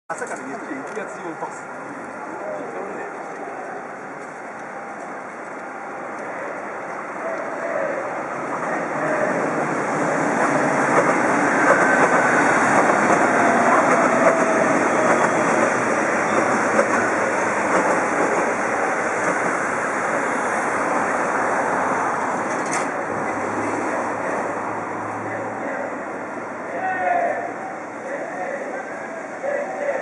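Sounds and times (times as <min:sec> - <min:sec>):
train wheel rumble: 0:00.1 - 0:25.3.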